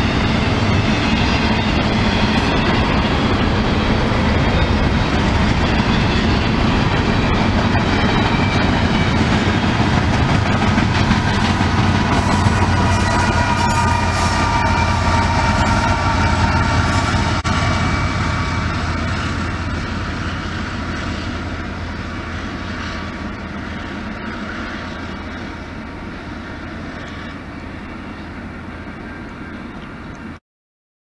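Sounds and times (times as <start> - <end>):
high steady tones: 0.0 - 26.7
freight train rumbling: 0.0 - 30.4.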